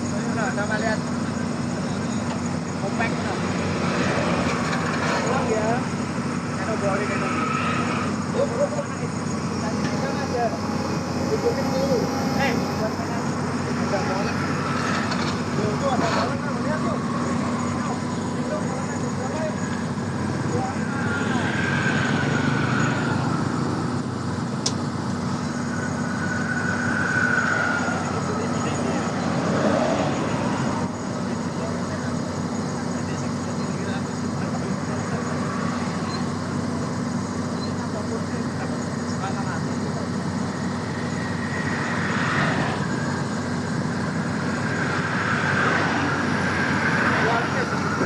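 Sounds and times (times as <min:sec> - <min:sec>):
high whine: 0:00.0 - 0:48.0
road noise: 0:00.0 - 0:48.0
vehicle engine humming: 0:00.0 - 0:48.0.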